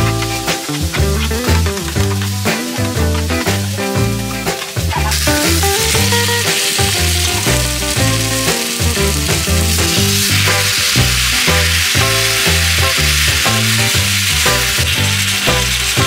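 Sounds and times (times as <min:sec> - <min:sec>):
background music with bass: 0:00.0 - 0:16.0
chicken sizzling in a pan: 0:00.0 - 0:16.0.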